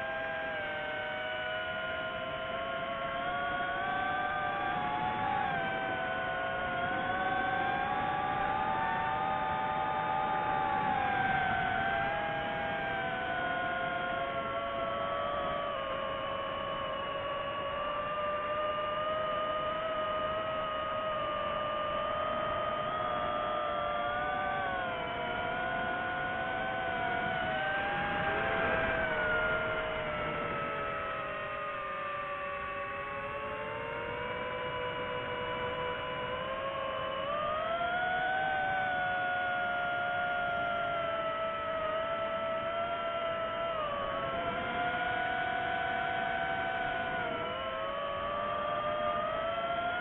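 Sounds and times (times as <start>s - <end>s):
drone propellers whining: 0.0s - 50.0s.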